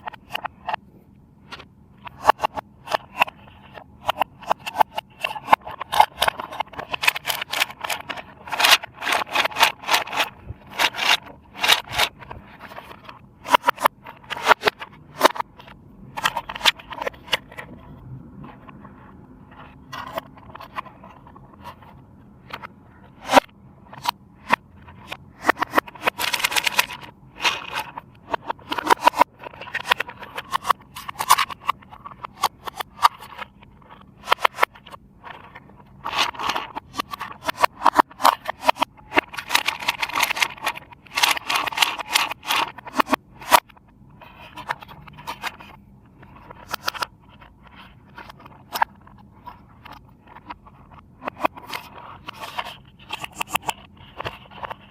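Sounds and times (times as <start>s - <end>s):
packaging rustling and scraping: 0.0s - 54.9s
plastic parts clicking: 0.0s - 54.9s.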